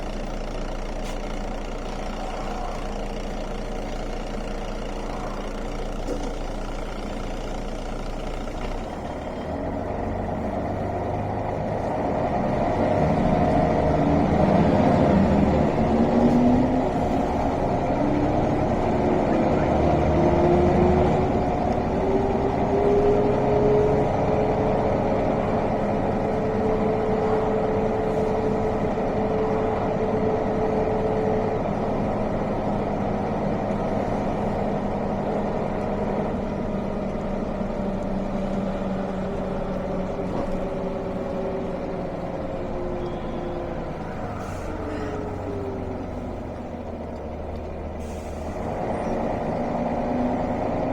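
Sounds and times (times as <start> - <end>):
bus diesel engine: 0.0 - 50.9.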